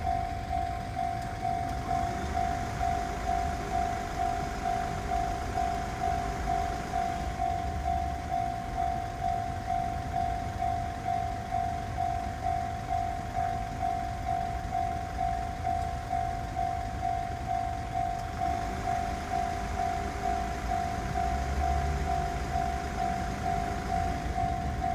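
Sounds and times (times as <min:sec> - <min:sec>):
electric train rumble: 0:00.0 - 0:24.9
level crossing warning bell: 0:00.0 - 0:24.9.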